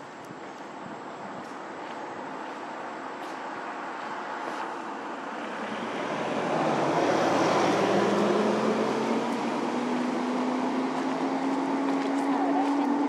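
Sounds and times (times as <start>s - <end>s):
engine hum with rushing: 1.3s - 13.0s.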